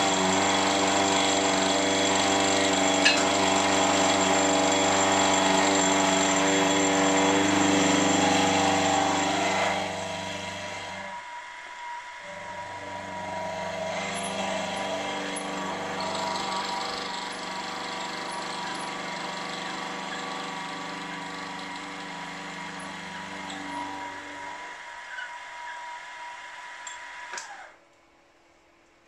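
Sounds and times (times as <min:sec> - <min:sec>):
milling machine cutting metal: 0:00.0 - 0:27.8.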